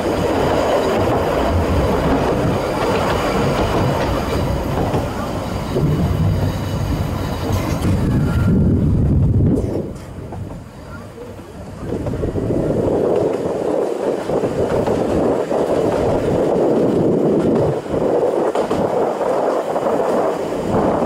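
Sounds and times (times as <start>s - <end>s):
train wheels and coaches rumbling: 0.0s - 21.0s.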